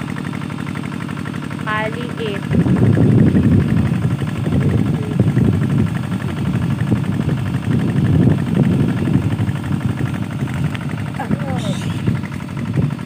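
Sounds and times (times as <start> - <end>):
wind buffeting microphone: 1.9 - 13.0.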